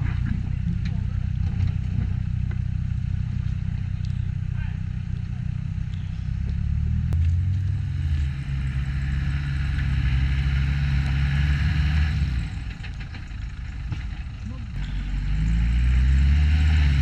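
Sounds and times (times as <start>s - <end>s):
car engine droning at low revs: 0.0s - 17.0s.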